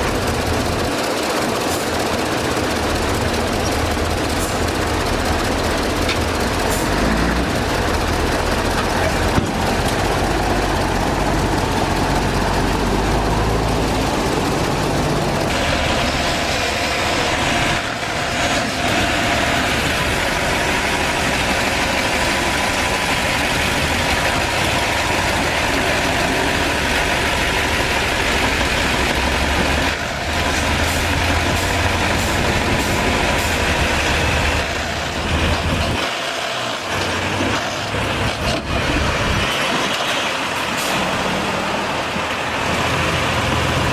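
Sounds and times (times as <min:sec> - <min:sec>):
heavy diesel machinery rumbling: 0:00.0 - 0:43.9.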